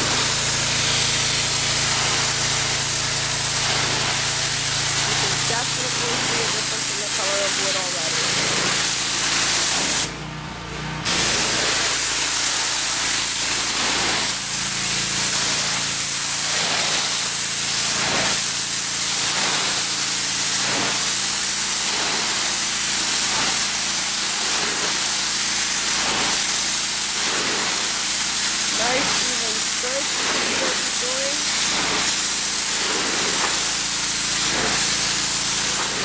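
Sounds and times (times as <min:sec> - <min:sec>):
pressure washer motor hum: 0:00.0 - 0:36.0
pressure washer spraying wood: 0:00.0 - 0:36.0.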